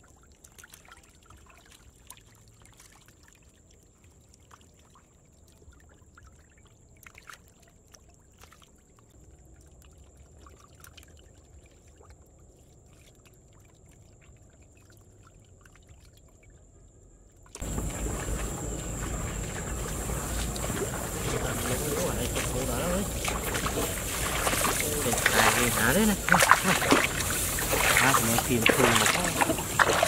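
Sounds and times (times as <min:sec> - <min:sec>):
fish splashing in shallow water: 0:00.0 - 0:30.0
water trickling and sloshing: 0:00.0 - 0:30.0.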